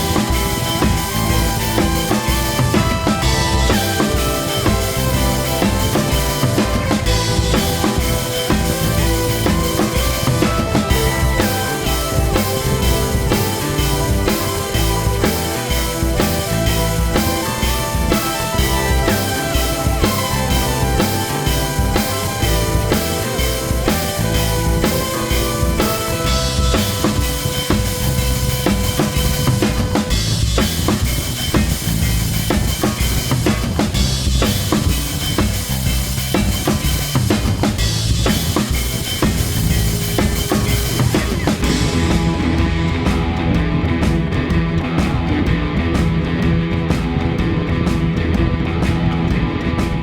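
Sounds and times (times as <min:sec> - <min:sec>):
background music with drum kit: 0:00.0 - 0:50.0.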